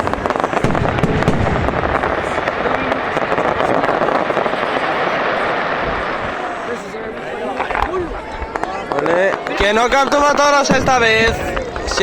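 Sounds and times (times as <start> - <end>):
fireworks bangs and crackling: 0.0 - 12.0
fireworks rumble: 0.0 - 12.0.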